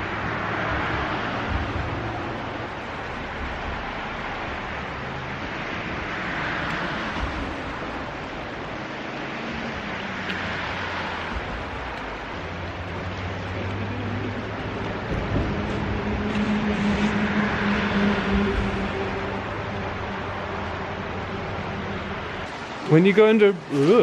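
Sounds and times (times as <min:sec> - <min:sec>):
fast-flowing river water: 0:00.0 - 0:24.0.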